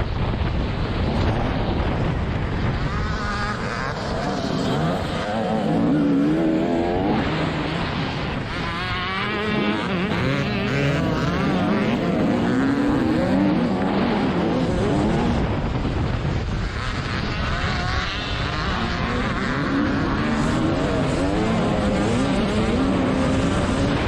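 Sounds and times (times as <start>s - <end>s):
motocross bike engine revving: 0.8s - 24.0s.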